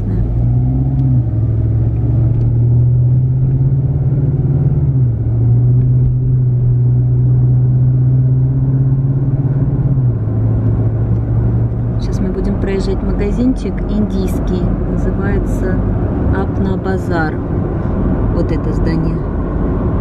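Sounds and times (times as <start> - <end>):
car engine drone in cabin: 0.0 - 20.0.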